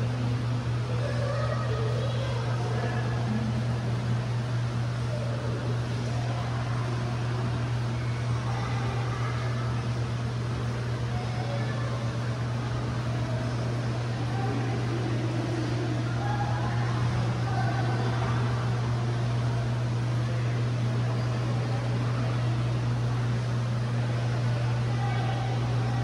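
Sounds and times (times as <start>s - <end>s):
low mechanical hum: 0.0s - 26.0s
murmur of distant voices: 0.0s - 26.0s.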